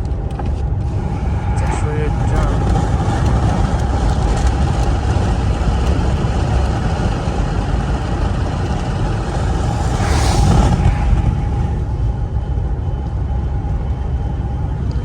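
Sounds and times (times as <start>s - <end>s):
road noise: 0.0s - 14.8s
car engine rumble: 0.0s - 15.0s.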